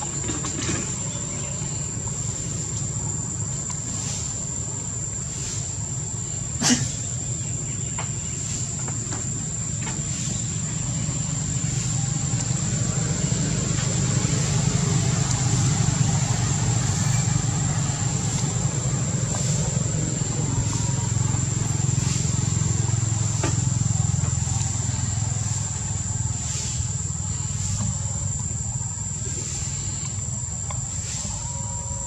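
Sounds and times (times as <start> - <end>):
low engine drone: 0.0 - 32.0.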